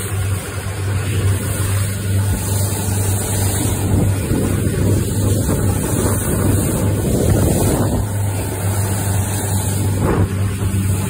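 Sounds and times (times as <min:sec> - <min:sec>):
motorboat engine running: 0:00.0 - 0:11.0
water rushing past hull: 0:00.0 - 0:11.0.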